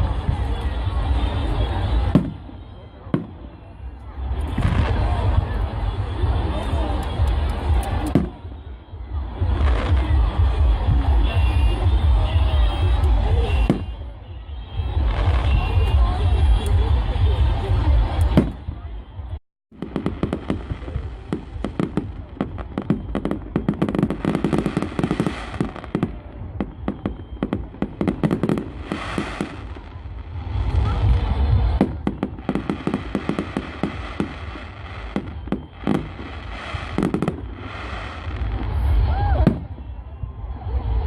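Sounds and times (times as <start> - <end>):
fireworks crackling: 0.0 - 41.0
low fireworks booms: 0.0 - 41.0.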